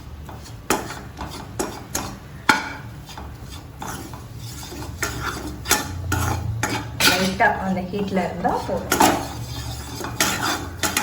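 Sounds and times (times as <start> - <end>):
spoon scraping and clinking pan: 0.4 - 11.0.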